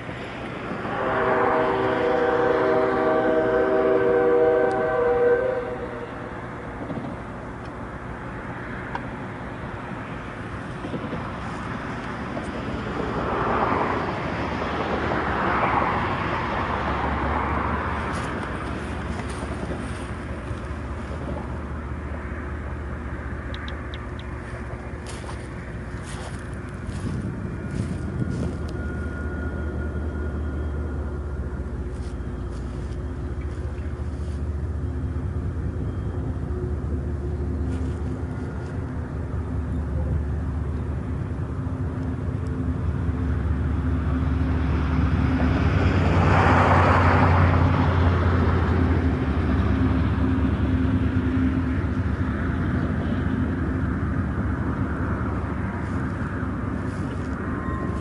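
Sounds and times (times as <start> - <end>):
diesel locomotive engine drone: 0.0 - 58.0
train rumbling on rails: 0.0 - 58.0.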